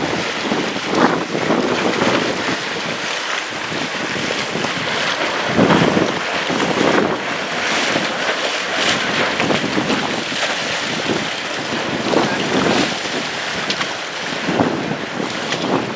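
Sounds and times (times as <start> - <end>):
water splashing along hull: 0.0 - 15.9
wind buffeting microphone: 0.0 - 15.9.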